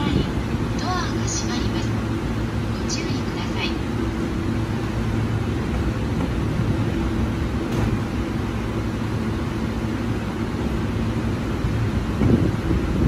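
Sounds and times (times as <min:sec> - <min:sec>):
electric train equipment humming: 0:00.0 - 0:13.0.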